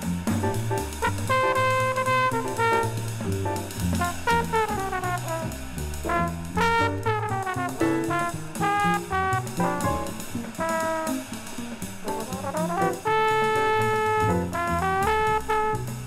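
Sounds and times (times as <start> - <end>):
bass: 0.0 - 16.0
drums: 0.0 - 16.0
brass horn lead line: 1.0 - 11.4, 12.2 - 16.0.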